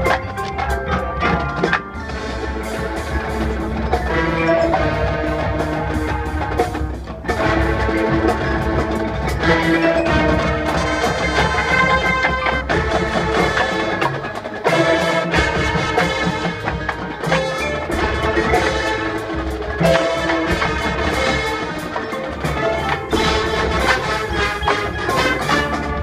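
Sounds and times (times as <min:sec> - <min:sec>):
marimbas and bells: 0:00.0 - 0:26.0
winds and brass playing: 0:02.0 - 0:26.0.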